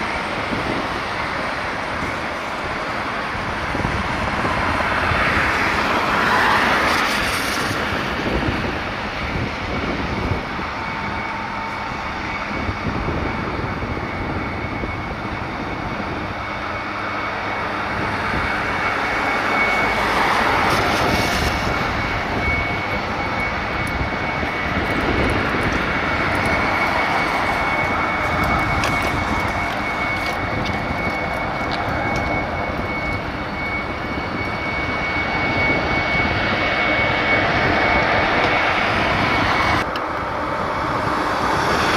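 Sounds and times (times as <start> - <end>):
jet engines rushing: 0.0 - 41.9.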